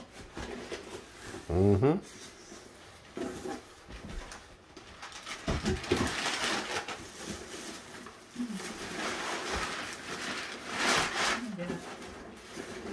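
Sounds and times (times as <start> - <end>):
plastic wrapping crinkling: 0.0 - 12.9.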